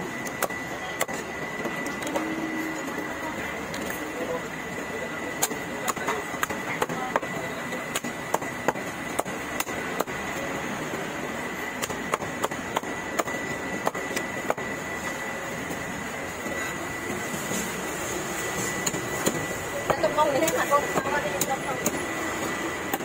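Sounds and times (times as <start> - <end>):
steady background noise: 0.0 - 23.0
thin high whine: 0.0 - 23.0.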